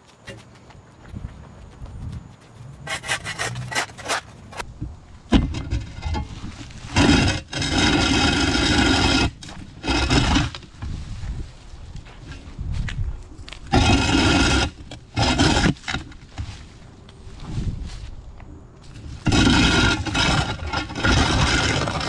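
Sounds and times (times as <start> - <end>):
shovel scraping ground: 2.8 - 4.7, 5.3 - 18.2, 18.8 - 22.0.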